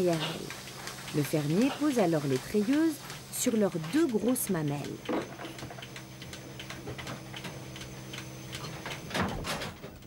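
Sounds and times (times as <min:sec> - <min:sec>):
milking machine hum: 0:00.0 - 0:10.0
milking machine pulsator ticking: 0:00.0 - 0:10.0.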